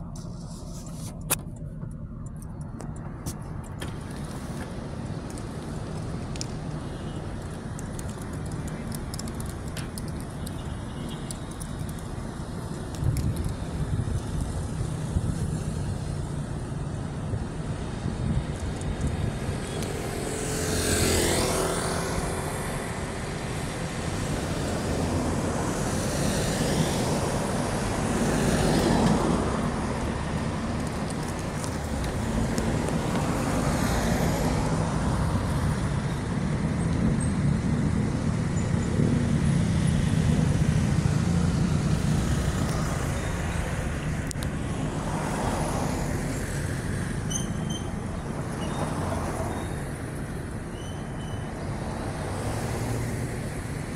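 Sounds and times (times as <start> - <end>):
cars passing: 0.0 - 53.9.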